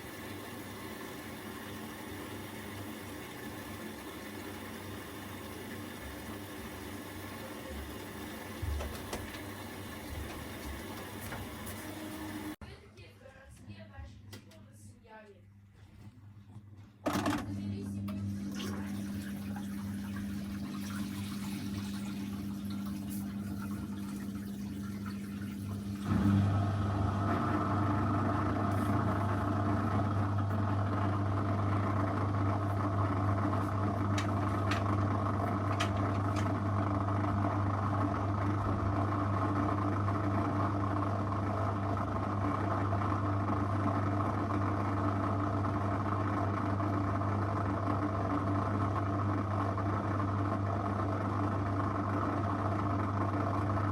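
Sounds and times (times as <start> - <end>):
washing machine humming: 0.0 - 14.8, 15.6 - 53.9.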